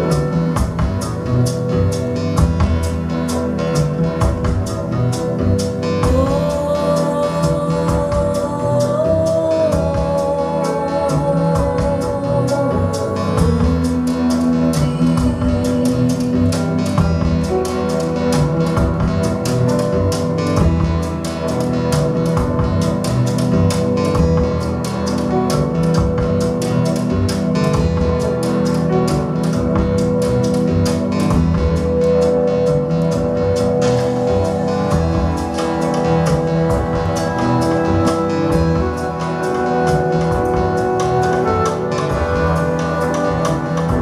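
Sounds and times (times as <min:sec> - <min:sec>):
recorded music with guitar and beat: 0:00.0 - 0:44.0.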